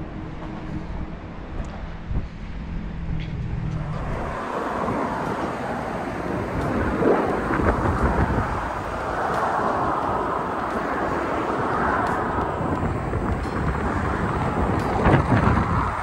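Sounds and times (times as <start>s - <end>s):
wind buffeting a microphone: 0.0s - 16.0s.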